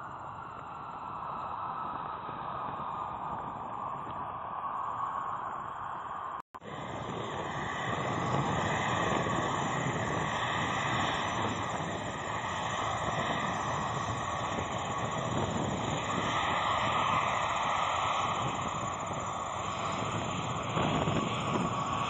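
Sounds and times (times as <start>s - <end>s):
jet engines of passing plane: 0.0s - 22.0s.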